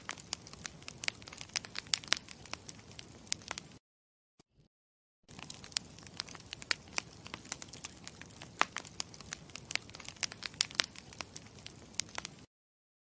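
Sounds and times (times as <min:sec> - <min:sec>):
campfire crackling: 0:00.0 - 0:03.8, 0:05.3 - 0:12.5.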